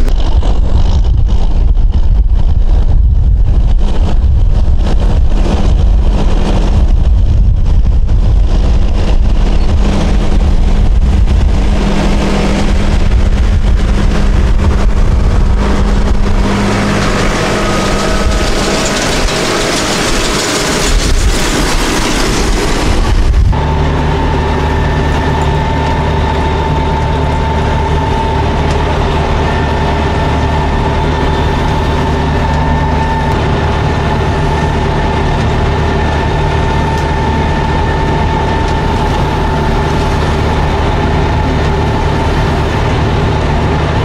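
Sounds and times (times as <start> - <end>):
baler and tractor passing: 0.0 - 44.0
tractor engine drone with whine: 0.0 - 44.0.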